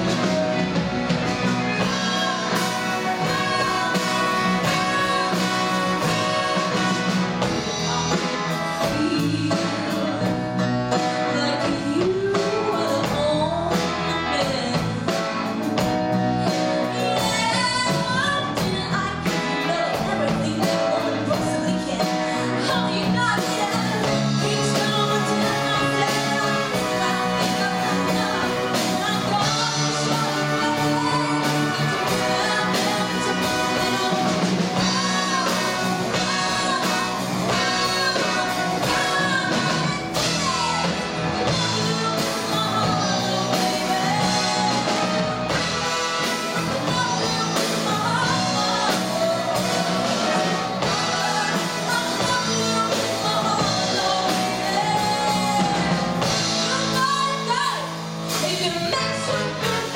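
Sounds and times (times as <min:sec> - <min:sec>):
live rock band playing: 0:00.0 - 0:59.9
woman singing: 0:00.0 - 0:59.9.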